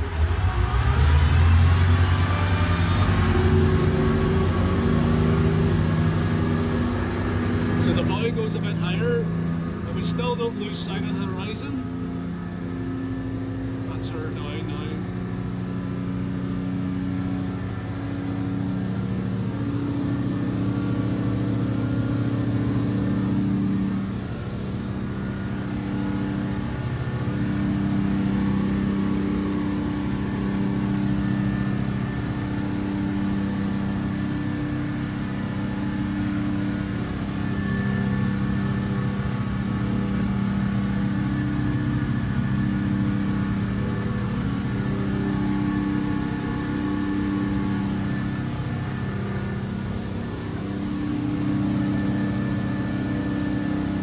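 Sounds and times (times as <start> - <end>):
boat engines running flat out: 0.0 - 54.0.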